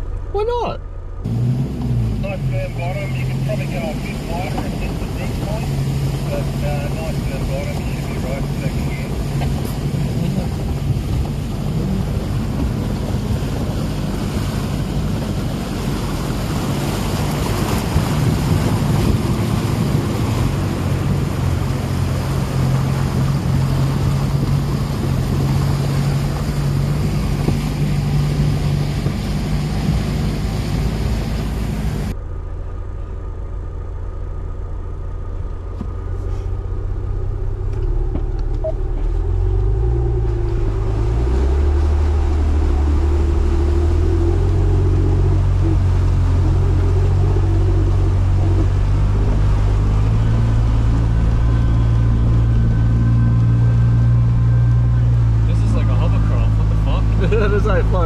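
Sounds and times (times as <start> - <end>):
vehicle engine pulling at low speed: 0.0 - 58.0
water washing and splashing: 1.3 - 32.2, 35.7 - 58.0.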